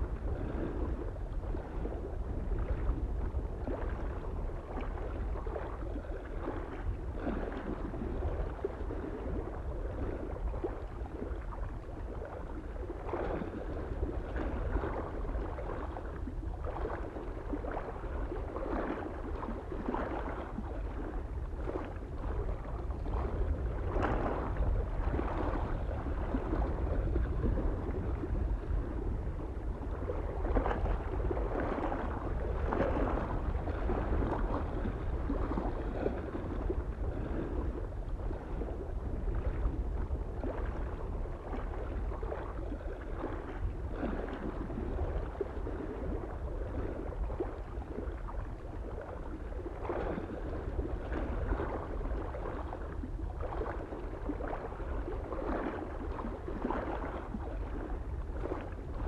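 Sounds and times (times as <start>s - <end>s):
lake waves lapping on shore: 0.0s - 59.0s
soft wind rumble: 0.0s - 59.0s.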